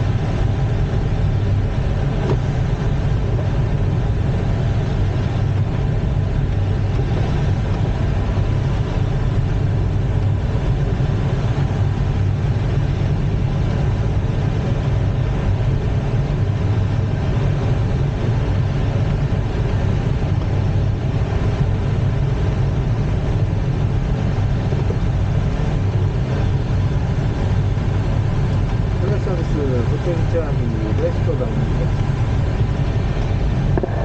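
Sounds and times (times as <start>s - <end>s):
rushing airflow in glider cockpit: 0.0s - 34.0s.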